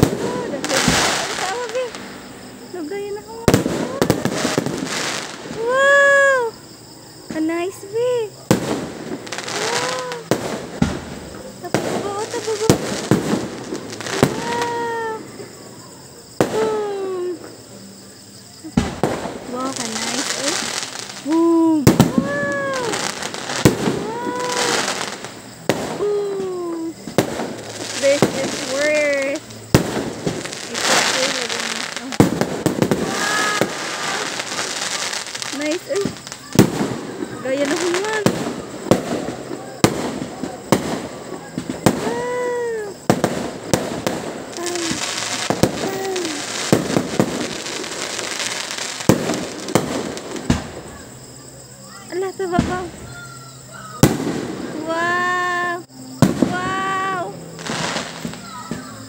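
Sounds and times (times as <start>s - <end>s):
fireworks bangs: 0.0s - 59.0s
fireworks crackling hiss: 0.0s - 59.0s
onlookers exclaiming: 3.3s - 7.3s, 7.9s - 17.6s, 19.8s - 29.4s, 30.2s - 59.0s.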